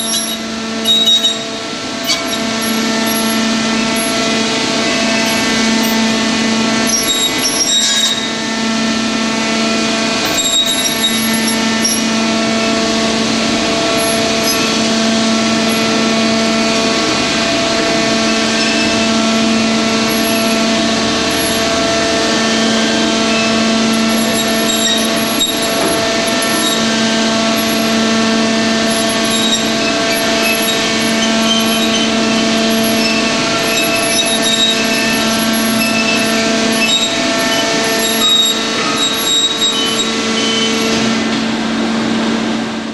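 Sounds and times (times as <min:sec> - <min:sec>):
bending machine hum and whine: 0:00.0 - 0:42.9.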